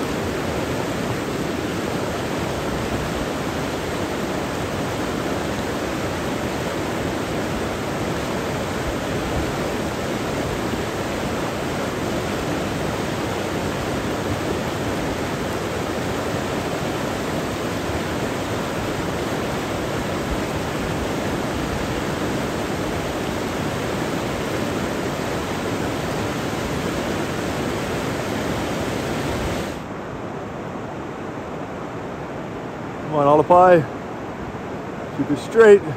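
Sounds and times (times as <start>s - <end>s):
river rapids rushing: 0.0s - 35.9s.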